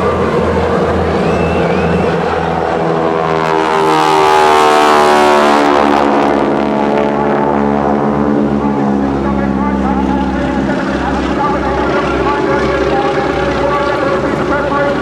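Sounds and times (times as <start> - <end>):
biplane engines droning: 0.0 - 15.0.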